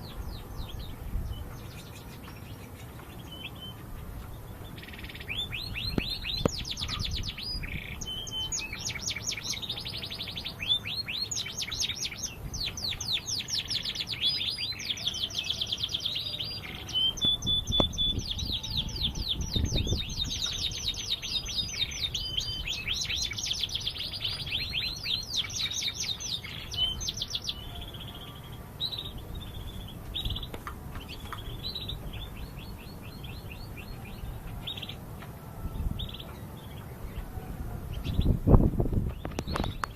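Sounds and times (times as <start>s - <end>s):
canary trilling and chirping: 0.0s - 35.0s.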